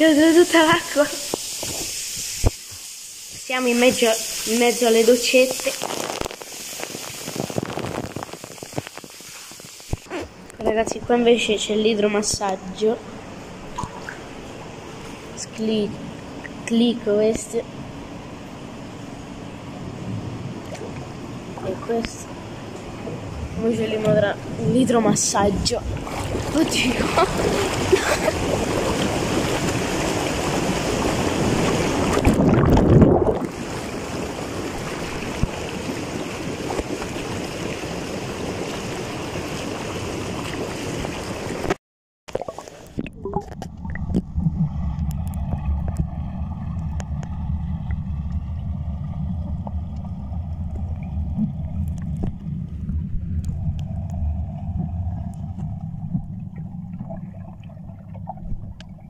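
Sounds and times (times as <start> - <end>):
jets churning pool water: 0.0 - 18.1, 19.8 - 59.0
muffled underwater jet rumble: 3.5 - 41.8, 42.6 - 59.0.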